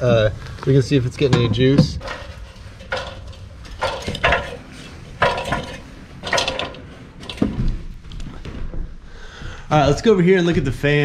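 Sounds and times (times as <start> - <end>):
footsteps: 0.0 - 11.0.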